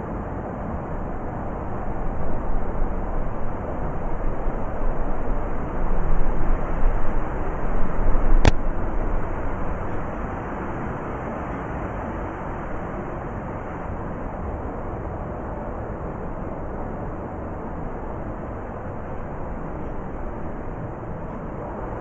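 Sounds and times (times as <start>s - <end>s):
blizzard wind gusting: 0.0s - 22.0s.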